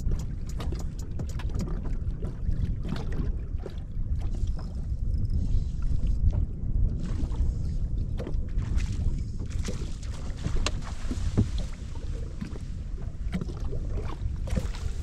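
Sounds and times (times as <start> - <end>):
water lapping against boat hull: 0.0 - 15.0
wind rumbling on microphone: 0.0 - 15.0.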